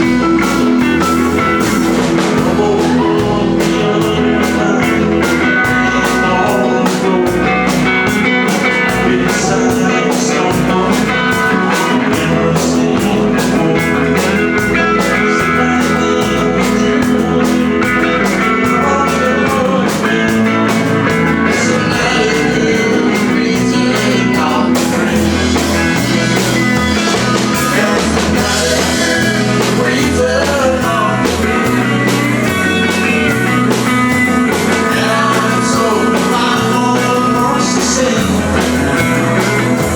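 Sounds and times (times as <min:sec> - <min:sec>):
bass guitar: 0:00.0 - 0:39.9
drums beating: 0:00.0 - 0:39.9
electric guitar: 0:00.0 - 0:39.9.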